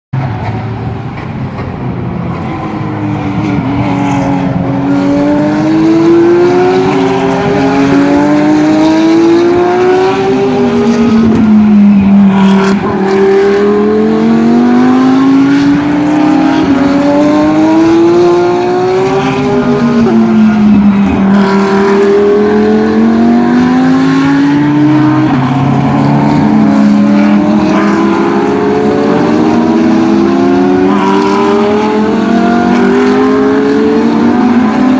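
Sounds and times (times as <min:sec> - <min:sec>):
race car engines accelerating: 0:00.2 - 0:34.9.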